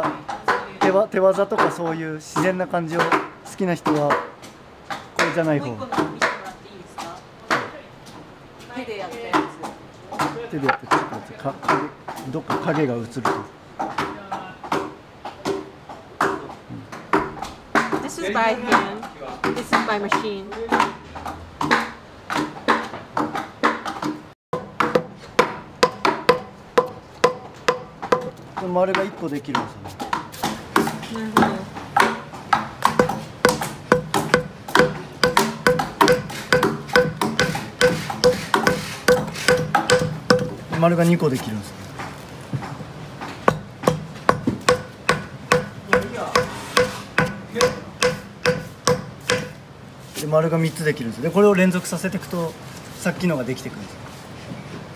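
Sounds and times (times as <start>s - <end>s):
adze striking wood: 0.0s - 7.7s, 9.1s - 49.7s.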